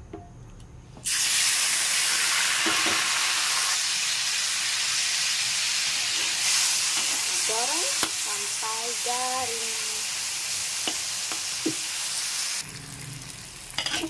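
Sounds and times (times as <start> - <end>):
fish frying in hot oil: 1.1 - 14.0.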